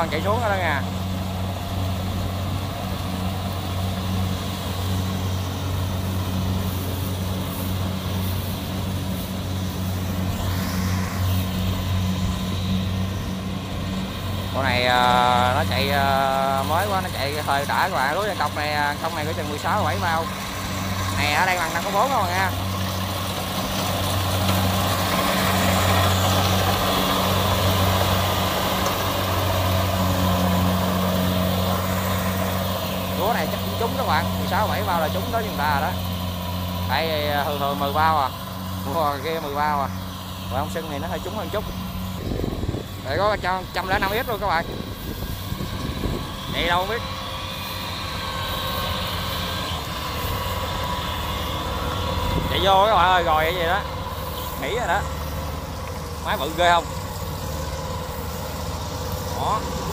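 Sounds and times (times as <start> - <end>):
combine harvester engine hum: 0.0 - 59.9
threshing noise: 0.0 - 59.9.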